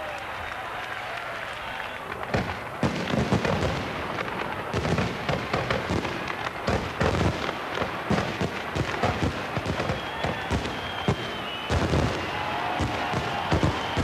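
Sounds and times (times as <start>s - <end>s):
fireworks shells bursting: 2.4s - 14.0s.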